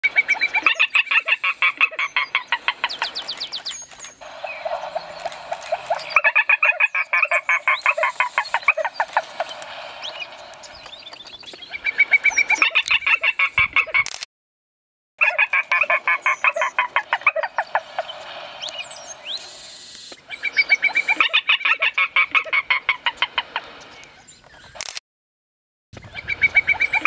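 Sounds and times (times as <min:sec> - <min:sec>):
bird clucking rapidly: 0:00.0 - 0:14.1, 0:15.2 - 0:23.6.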